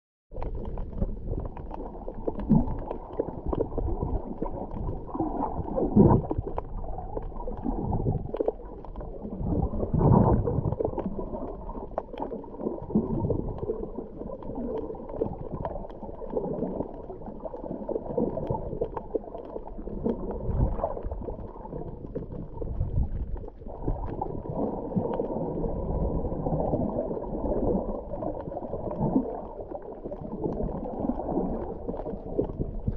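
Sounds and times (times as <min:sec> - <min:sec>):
underwater sloshing and gurgling: 0:00.3 - 0:32.9.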